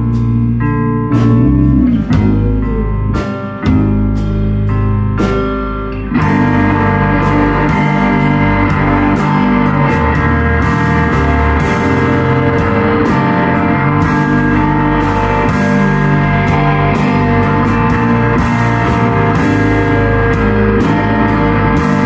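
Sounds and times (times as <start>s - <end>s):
drum kit: 0.0s - 22.0s
electric guitars sustaining chords: 0.0s - 22.0s.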